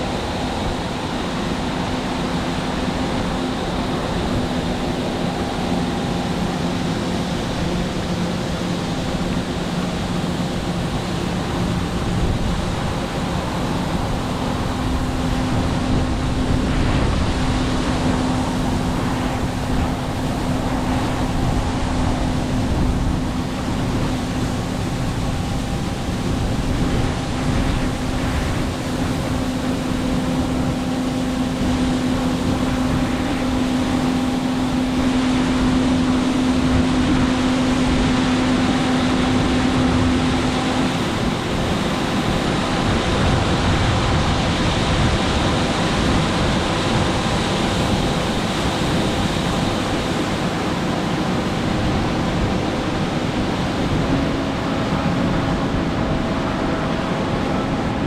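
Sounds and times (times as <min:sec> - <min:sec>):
harvest machinery engine drone: 0:00.0 - 0:58.0
low machine hum: 0:00.0 - 0:58.0
wide rushing noise: 0:00.0 - 0:58.0.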